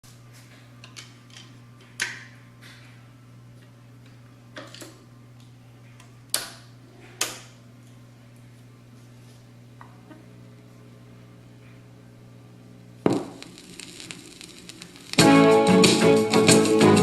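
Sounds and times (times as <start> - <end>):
steady low hum: 2.4 - 16.9.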